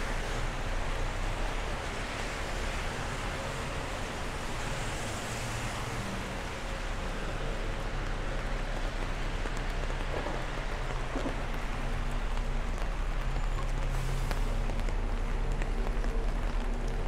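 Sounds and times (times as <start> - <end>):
city traffic rumble: 0.0 - 17.0
steady rain: 0.0 - 17.0.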